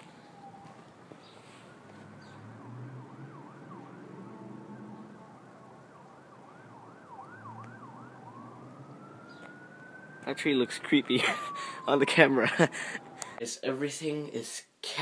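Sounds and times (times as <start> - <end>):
faint emergency siren wailing: 0.0 - 13.5.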